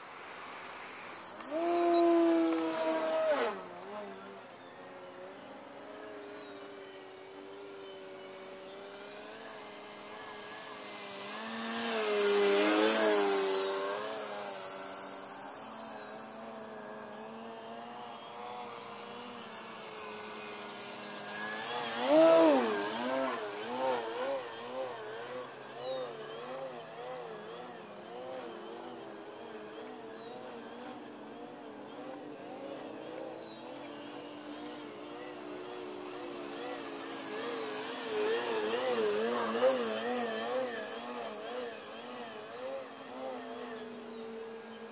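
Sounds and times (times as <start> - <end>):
model plane motor buzzing: 0.0 - 44.9.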